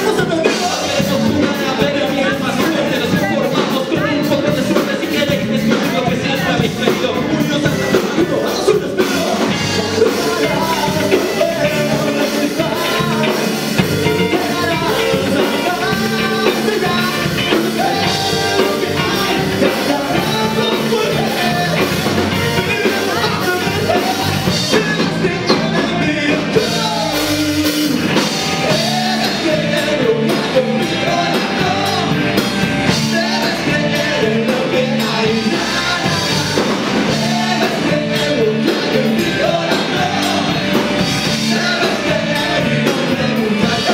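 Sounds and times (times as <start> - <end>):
bass guitar: 0.0 - 43.9
electric guitar: 0.0 - 43.9
person singing: 0.0 - 43.9.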